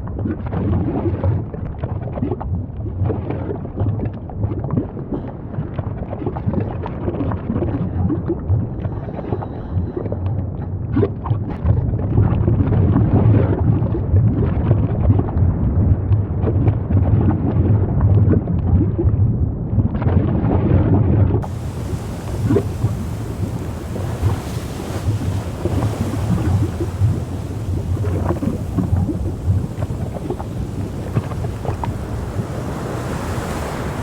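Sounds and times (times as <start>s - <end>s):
deep rumble with crackling: 0.0s - 34.0s.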